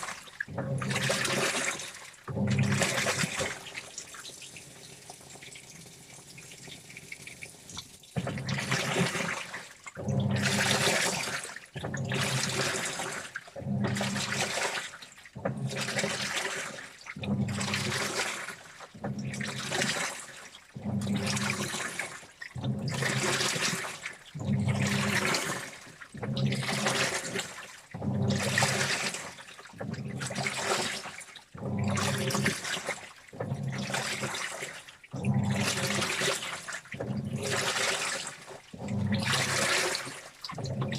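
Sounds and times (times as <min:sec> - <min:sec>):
washing machine motor hum: 0:00.0 - 0:03.8, 0:08.2 - 0:40.9
washing machine water sloshing: 0:00.0 - 0:40.9.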